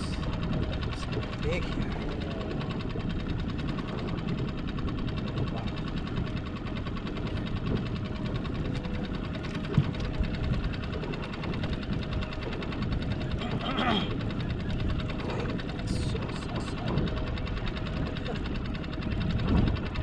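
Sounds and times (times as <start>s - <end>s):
small motor running: 0.0s - 20.0s.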